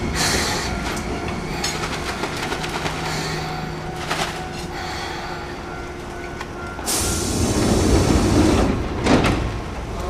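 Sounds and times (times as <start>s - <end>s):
electric train rolling to a stop: 0.0s - 10.0s.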